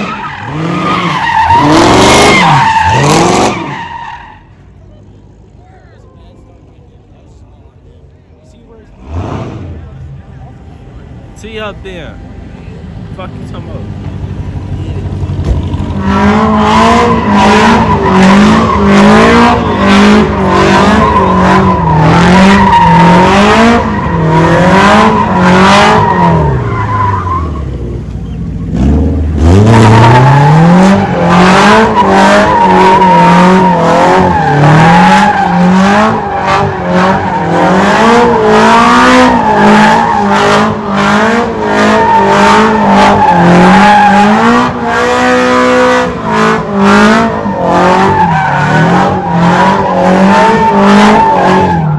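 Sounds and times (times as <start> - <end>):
car engine revving: 0.0 - 4.2, 8.6 - 51.9.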